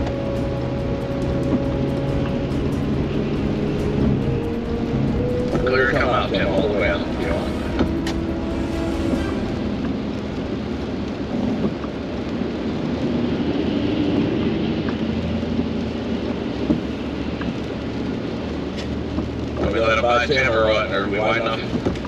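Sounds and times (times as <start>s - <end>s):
raindrops ticking on windshield: 0.0s - 8.5s, 9.6s - 22.0s
road and tyre noise: 0.0s - 22.0s.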